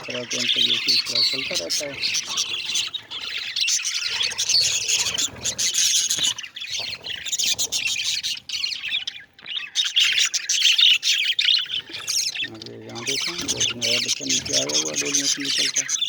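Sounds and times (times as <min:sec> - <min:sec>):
budgerigars chirping: 0:00.0 - 0:16.0.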